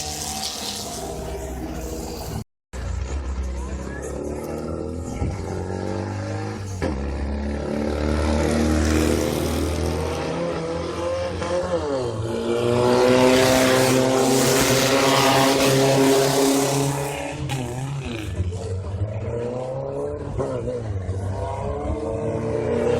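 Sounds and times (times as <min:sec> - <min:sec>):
race vehicle engine accelerating: 0:00.0 - 0:22.9.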